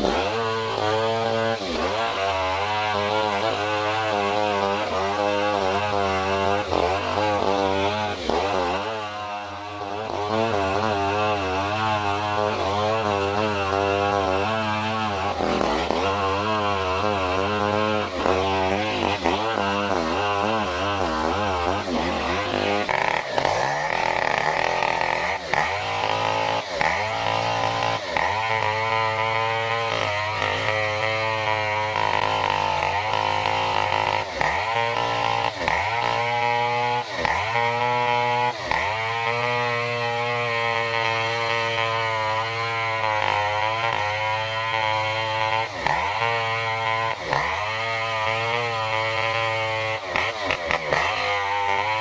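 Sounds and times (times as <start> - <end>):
chainsaw cutting log: 0.0 - 52.0.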